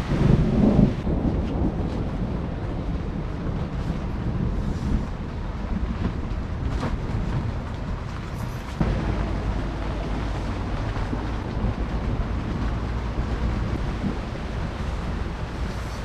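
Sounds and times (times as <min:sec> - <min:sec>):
heavy rain: 0:00.0 - 0:16.0
wind buffeting microphone: 0:00.0 - 0:16.0.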